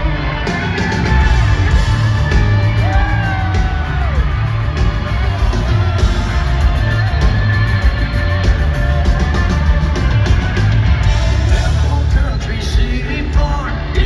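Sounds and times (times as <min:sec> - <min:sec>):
country-rock band playing: 0:00.0 - 0:14.0.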